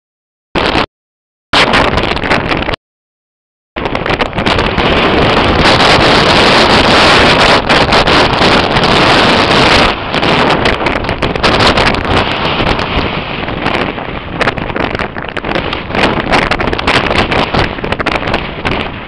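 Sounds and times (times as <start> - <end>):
wind buffeting microphone: 0.6 - 0.8, 1.6 - 2.8, 3.8 - 19.0.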